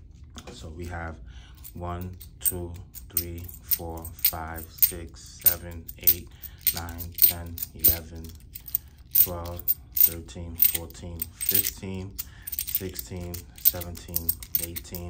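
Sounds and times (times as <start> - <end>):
metal coins clinking: 1.6 - 15.0.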